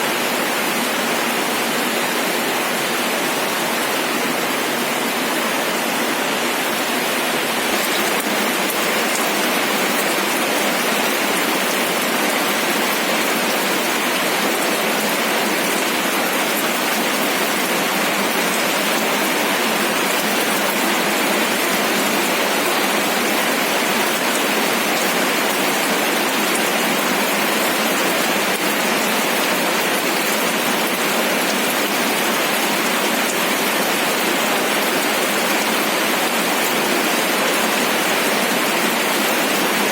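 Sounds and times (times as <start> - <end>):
rain pattering on a surface: 7.4 - 39.9.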